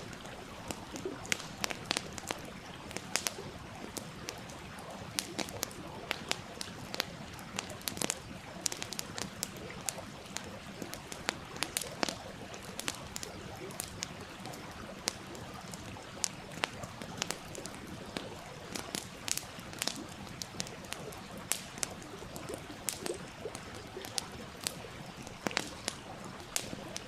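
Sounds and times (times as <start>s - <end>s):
stream rushing and trickling: 0.0s - 27.0s
wood fire crackling and popping: 0.0s - 27.0s.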